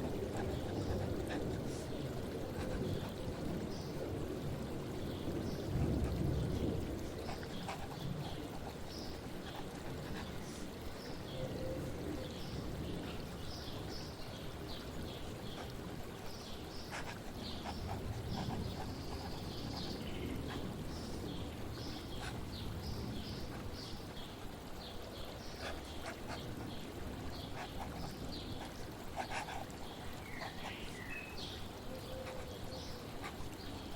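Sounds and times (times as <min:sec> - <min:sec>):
flowing water: 0:00.0 - 0:33.9.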